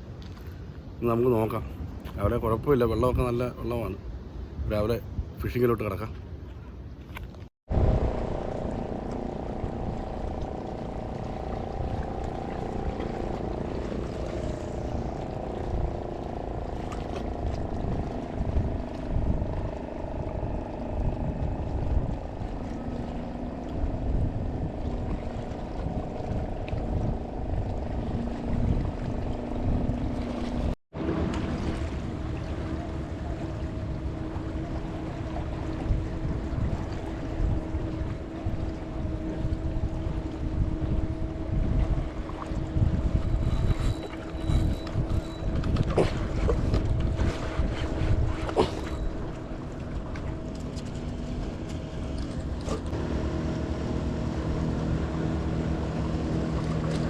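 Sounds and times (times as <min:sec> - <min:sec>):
water noise: 0:00.0 - 0:57.0
wind: 0:00.0 - 0:57.0
boat engine running: 0:07.7 - 0:57.0.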